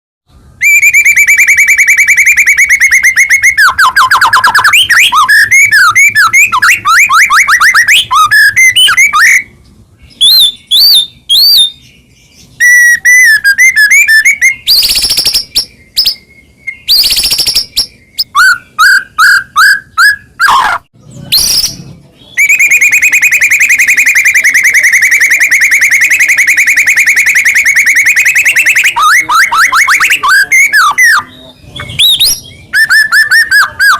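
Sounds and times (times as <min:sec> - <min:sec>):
songbird singing: 0:00.3 - 0:33.9.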